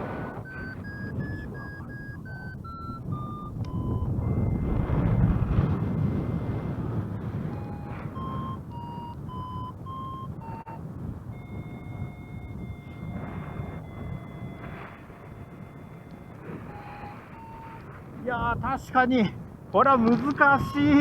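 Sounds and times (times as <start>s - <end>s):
variometer beeping: 0.0s - 19.0s, 20.3s - 21.0s
wind on microphone: 0.0s - 21.0s.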